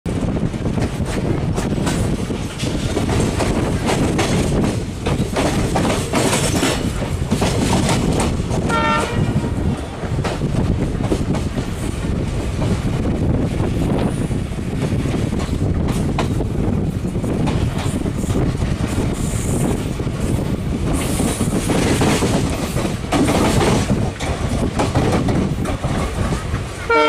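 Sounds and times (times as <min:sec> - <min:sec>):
train rumbling: 0:00.0 - 0:27.0
wind: 0:00.0 - 0:27.0
wheels clattering over rails: 0:00.7 - 0:14.2, 0:14.9 - 0:26.9.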